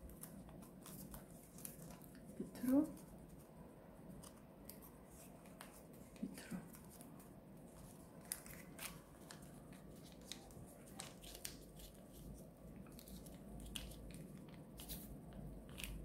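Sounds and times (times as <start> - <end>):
paper rustling and crinkling: 0.0 - 3.5, 4.2 - 15.1.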